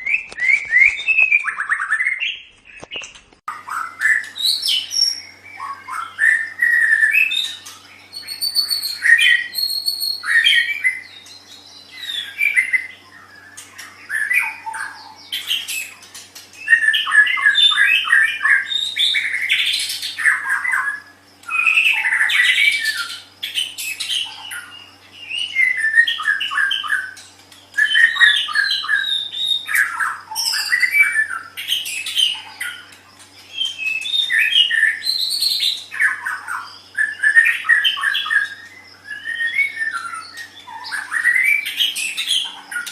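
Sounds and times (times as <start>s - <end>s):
songbird singing whistles: 0.0s - 42.9s.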